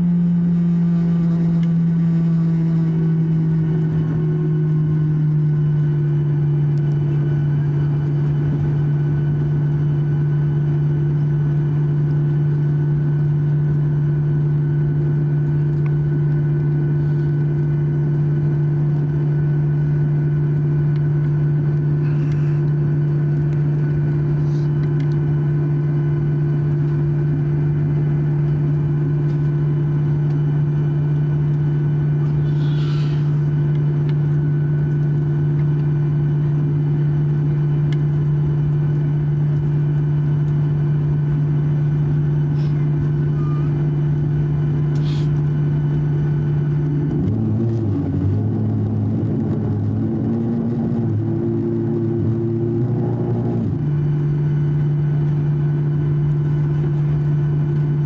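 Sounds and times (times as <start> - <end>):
aircraft engines droning: 0.0 - 58.0
faint hum: 0.0 - 58.0.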